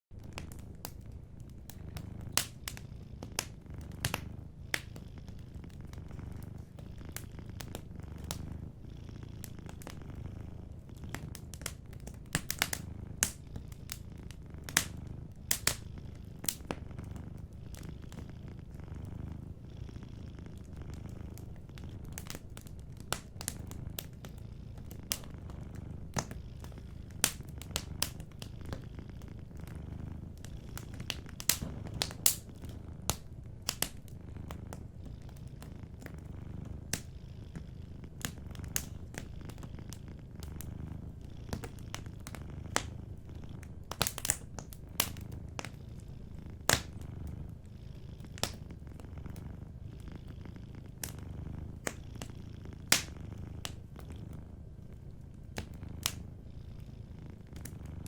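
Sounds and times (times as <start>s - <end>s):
cat purring: 0.0s - 58.0s
wood fire crackling: 0.1s - 58.0s.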